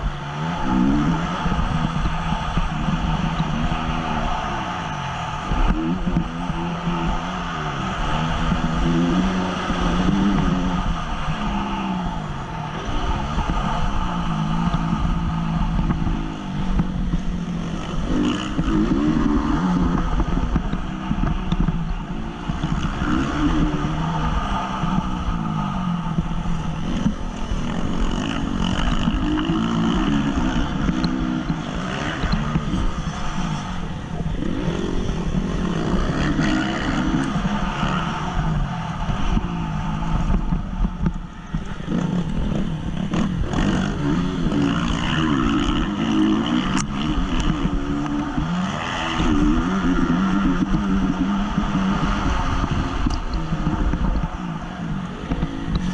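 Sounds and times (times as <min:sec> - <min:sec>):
motorcycle engine revving: 0:00.0 - 0:55.9
wind rumble: 0:00.0 - 0:55.9.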